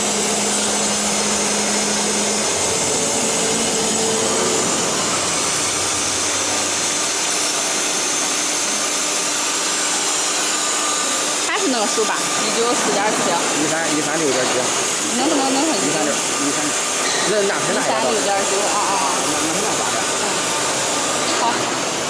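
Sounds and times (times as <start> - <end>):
machine rushing whir: 0.0 - 22.0.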